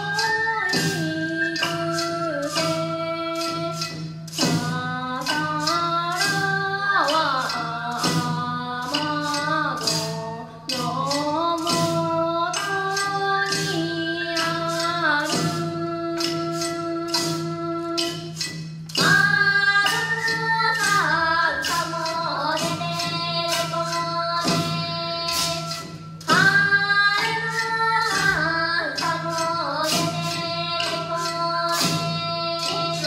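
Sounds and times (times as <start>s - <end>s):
clacking percussion beat: 0.0s - 33.0s
instrumental accompaniment: 0.0s - 33.0s.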